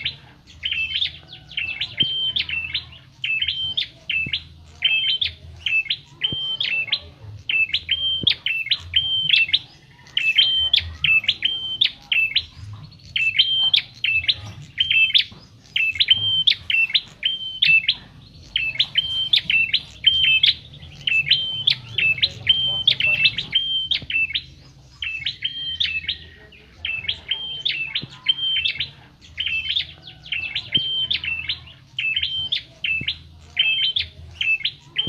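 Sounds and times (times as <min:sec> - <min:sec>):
songbird chirping: 0:00.0 - 0:35.0.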